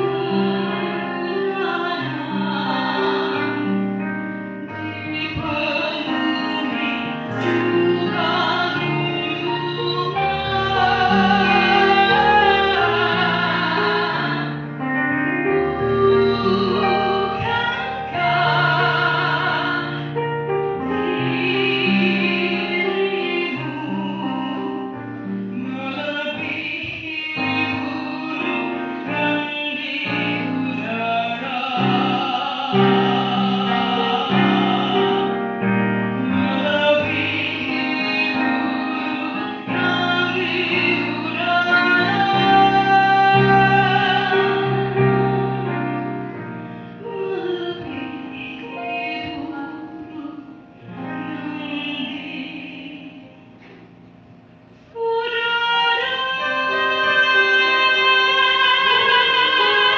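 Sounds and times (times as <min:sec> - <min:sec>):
woman singing with vibrato: 0:00.0 - 0:20.2, 0:20.8 - 0:53.6, 0:54.9 - 0:59.9
piano accompaniment: 0:00.0 - 0:59.9.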